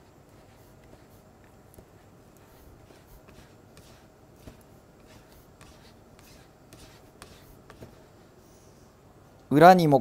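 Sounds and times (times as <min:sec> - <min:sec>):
scraper pushing potato through sieve: 0:00.0 - 0:08.1.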